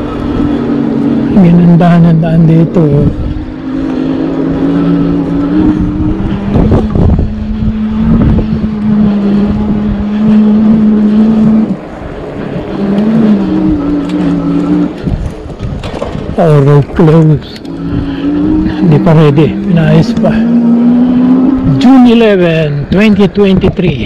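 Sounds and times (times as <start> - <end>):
electric hub motor humming: 0.0 - 24.0
wind over microphone: 0.0 - 24.0.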